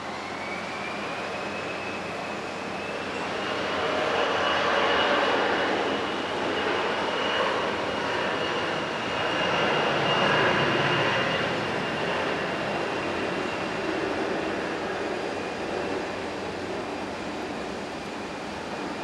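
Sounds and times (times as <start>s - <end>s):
high engine whine: 0.0s - 19.0s
jet engines loud rush: 0.0s - 19.0s.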